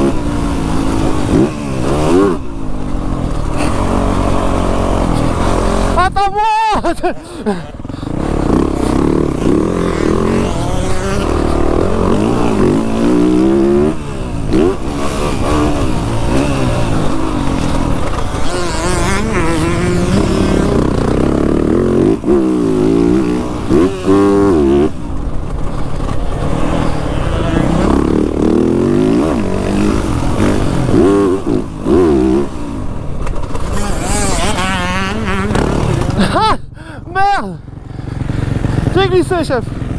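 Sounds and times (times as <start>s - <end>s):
motocross bike engine revving: 0.0s - 36.8s, 37.6s - 39.9s.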